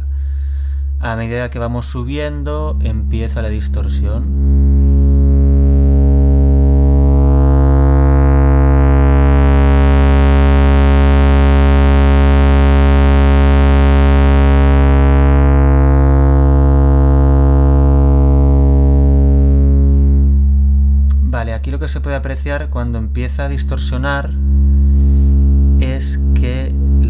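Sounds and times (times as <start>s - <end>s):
distorted synthesizer tone: 0.0s - 27.0s.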